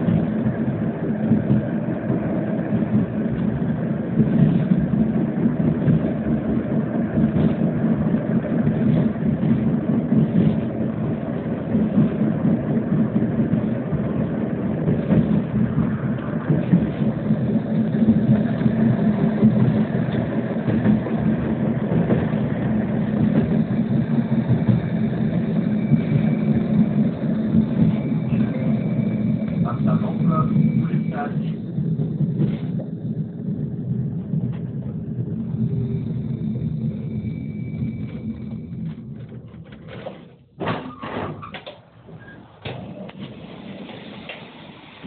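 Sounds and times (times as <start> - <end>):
tram wheels rumbling on rails: 0.0 - 45.0.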